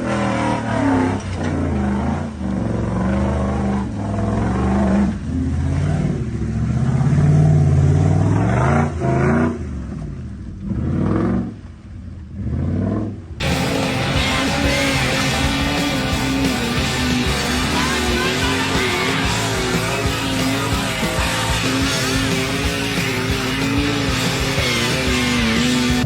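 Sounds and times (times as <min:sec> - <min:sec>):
engine revving: 0:00.0 - 0:11.7, 0:12.3 - 0:26.0.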